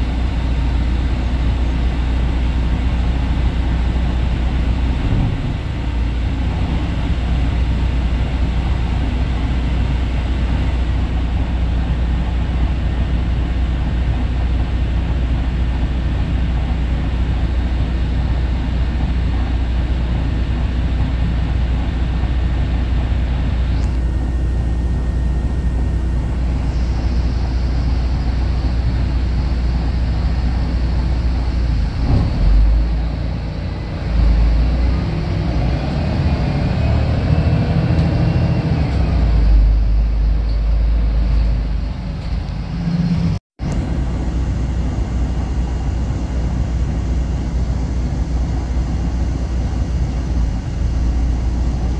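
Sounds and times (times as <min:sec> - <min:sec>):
bus diesel engine rumbling: 0:00.0 - 0:51.9.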